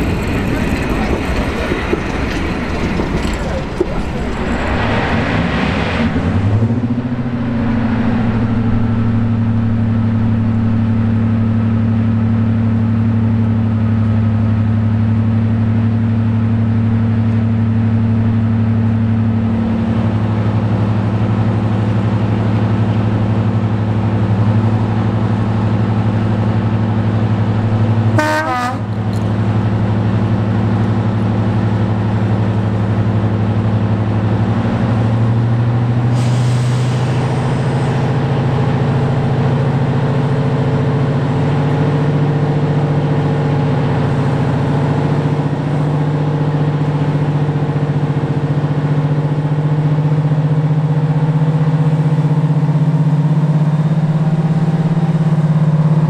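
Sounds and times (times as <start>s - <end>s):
diesel locomotive engine pulling: 0.0s - 56.0s.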